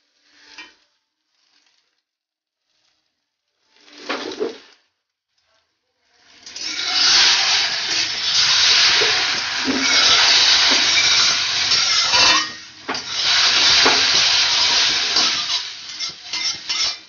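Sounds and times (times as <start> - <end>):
eggs sizzling in a pan: 0.0 - 1.9, 3.6 - 4.8, 6.0 - 17.0.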